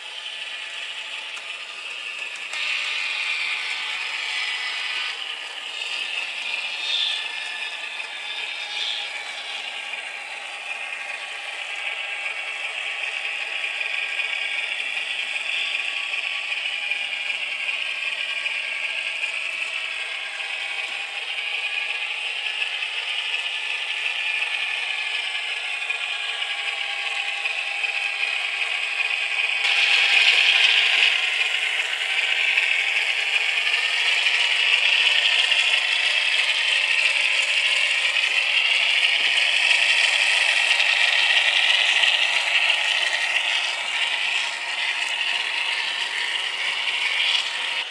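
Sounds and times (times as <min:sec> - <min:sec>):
tinny diesel engine sound from speaker: 0:00.0 - 0:47.9.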